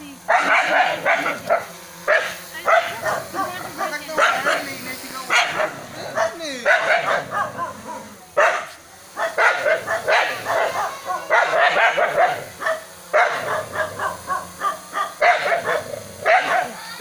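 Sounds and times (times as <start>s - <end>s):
small dog barking: 0.3s - 4.7s, 5.3s - 16.9s.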